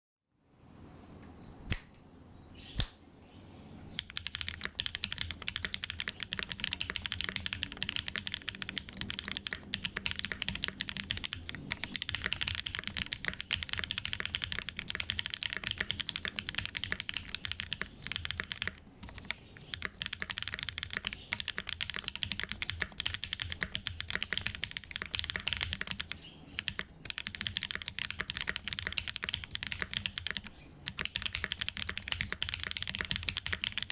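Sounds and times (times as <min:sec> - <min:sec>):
mechanical keyboard typing: 0:04.0 - 0:33.9.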